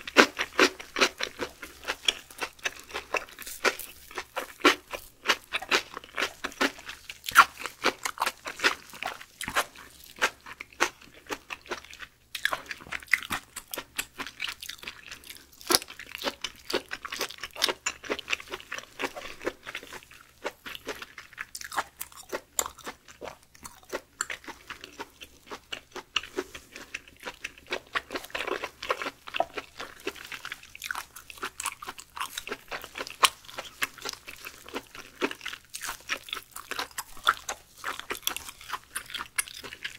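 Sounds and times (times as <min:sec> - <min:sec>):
close chewing with wet mouth noises: 0:00.0 - 0:39.9.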